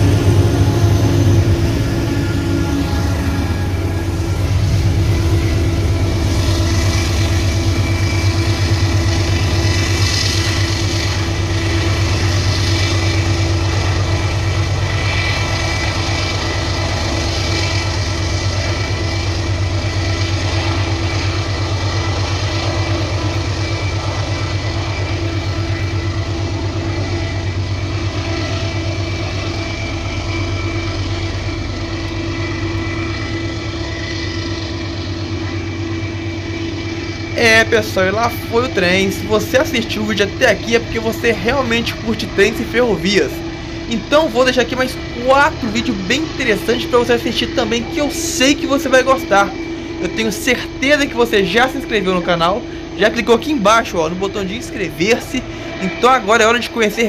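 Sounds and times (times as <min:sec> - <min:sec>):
freight locomotive engine drone: 0:00.0 - 0:57.0.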